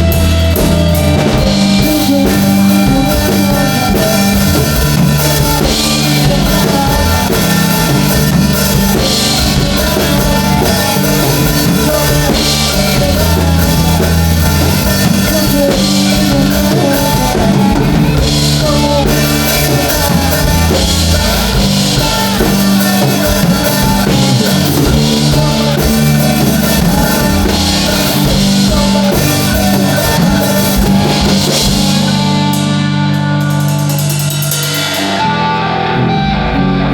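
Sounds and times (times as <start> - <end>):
rock band music: 0.0 - 36.9.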